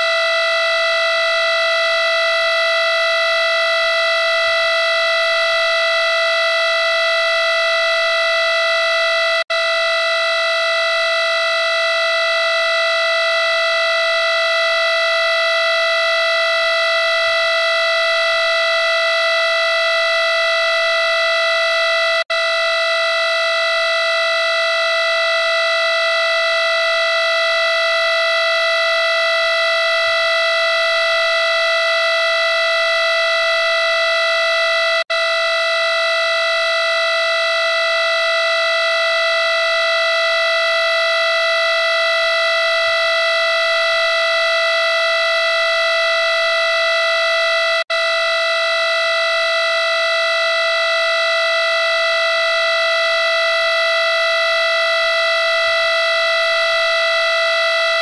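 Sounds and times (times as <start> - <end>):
harsh electronic buzzing tone: 0.0 - 58.0.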